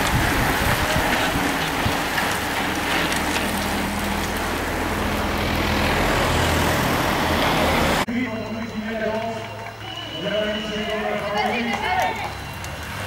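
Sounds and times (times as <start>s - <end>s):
cyclists riding past: 0.0s - 13.0s
engine humming: 0.0s - 13.0s.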